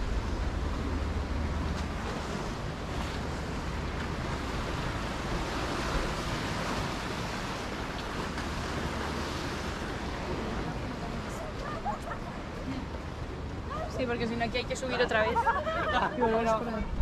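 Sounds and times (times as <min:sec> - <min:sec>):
waves washing against rocks: 0:00.0 - 0:13.7
wind rumbling on microphone: 0:00.0 - 0:14.8, 0:16.7 - 0:17.0.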